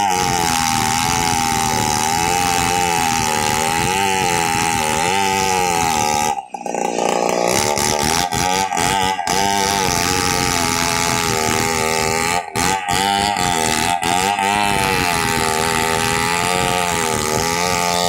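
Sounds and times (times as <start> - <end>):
chainsaw cutting through log: 0.0 - 18.0.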